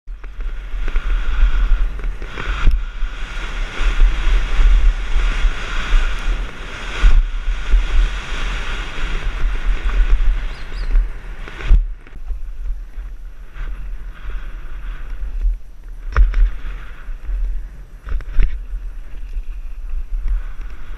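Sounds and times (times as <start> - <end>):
dirt bike engine running: 0.1 - 20.9
wind buffeting microphone: 0.1 - 20.9.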